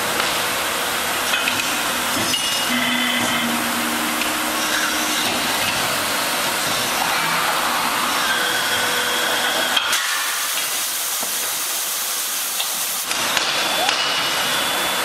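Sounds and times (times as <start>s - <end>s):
machinery and air hiss: 0.0s - 15.0s.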